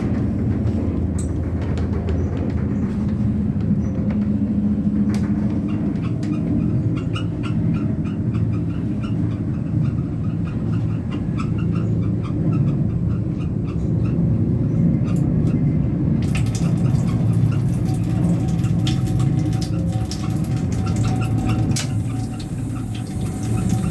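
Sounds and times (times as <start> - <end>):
train rumbling and rattling: 0.0 - 23.9.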